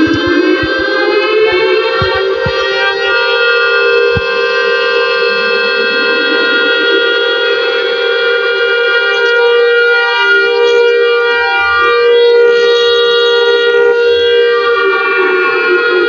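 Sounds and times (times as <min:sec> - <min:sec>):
buzzy alarm tone: 0:00.0 - 0:16.0.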